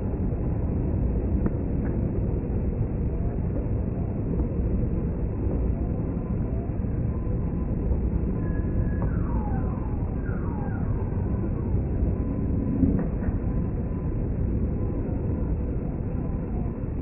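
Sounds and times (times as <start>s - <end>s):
jet aircraft rumble: 0.0s - 17.0s.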